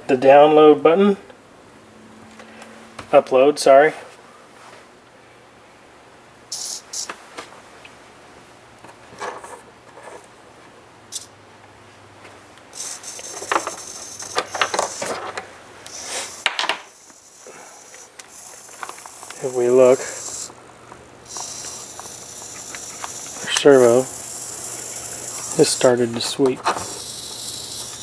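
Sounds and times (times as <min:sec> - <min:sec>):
steady low hum: 0:00.7 - 0:28.0.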